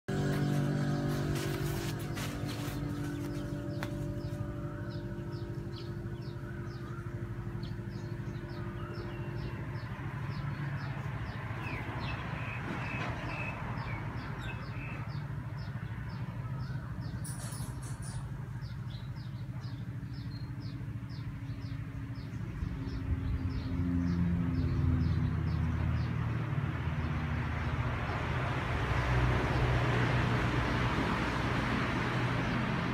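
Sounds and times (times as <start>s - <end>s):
birds chirping: 0.1s - 28.3s
low mechanical drone: 0.1s - 32.9s.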